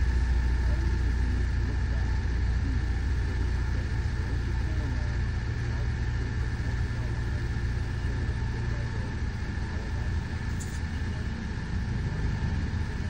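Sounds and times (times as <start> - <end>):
bus idling: 0.0 - 13.0.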